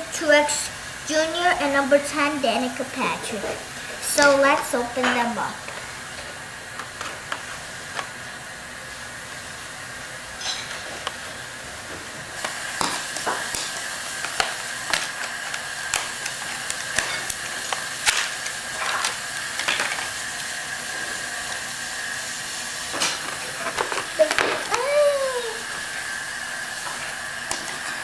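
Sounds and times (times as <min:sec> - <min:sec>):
steady background hiss: 0:00.0 - 0:28.0.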